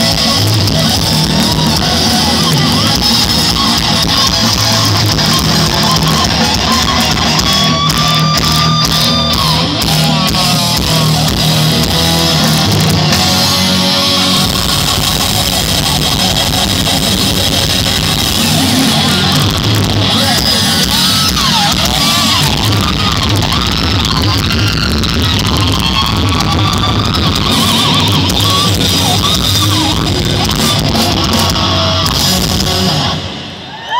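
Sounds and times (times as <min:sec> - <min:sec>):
distorted electric guitar: 0:00.0 - 0:33.9
drums: 0:00.0 - 0:33.9
live thrash metal band: 0:00.0 - 0:33.9.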